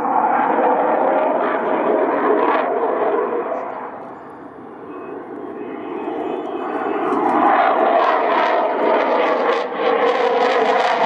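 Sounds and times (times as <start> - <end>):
fighter jet flying past: 0.0 - 11.0.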